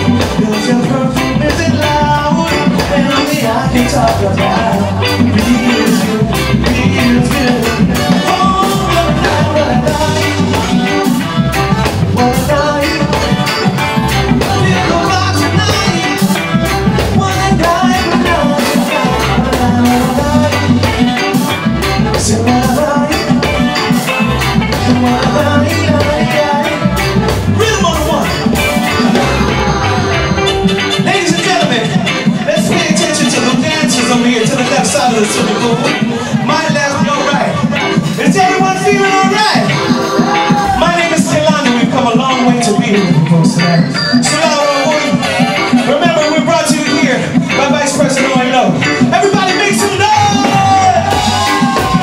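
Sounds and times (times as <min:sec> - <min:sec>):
drum kit: 0:00.0 - 0:52.0
electric guitar: 0:00.0 - 0:52.0
keyboards: 0:00.0 - 0:52.0
repeating bass line: 0:00.0 - 0:52.0.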